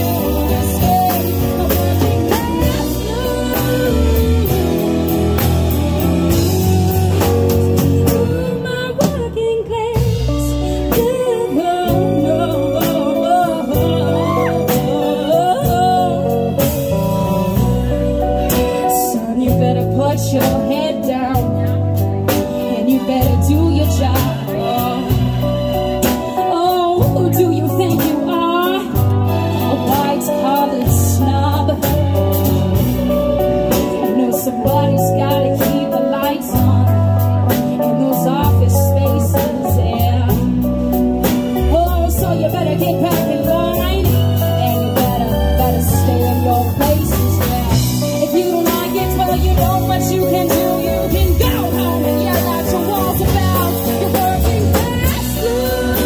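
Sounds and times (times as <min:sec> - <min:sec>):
live band playing: 0:00.0 - 0:56.0
woman singing: 0:00.0 - 0:56.0.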